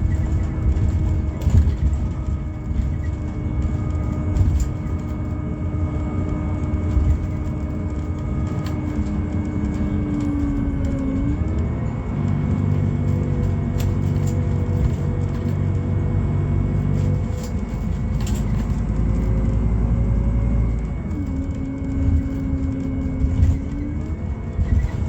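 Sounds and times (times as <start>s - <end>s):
bus engine rumble and whine: 0.0s - 25.0s.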